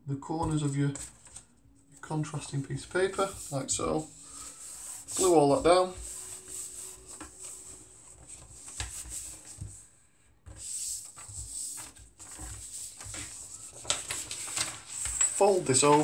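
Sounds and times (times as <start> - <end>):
paper rubbing and rustling: 0.4 - 16.0.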